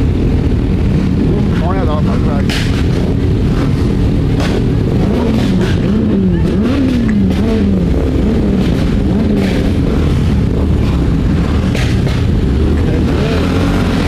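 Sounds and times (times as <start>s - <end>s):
motorcycle engine revving: 0.0s - 14.0s
wind on microphone: 0.0s - 14.0s.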